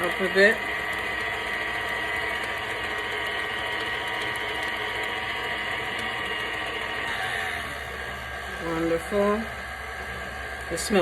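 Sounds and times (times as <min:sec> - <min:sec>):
electric mixer whining: 0:00.0 - 0:11.0.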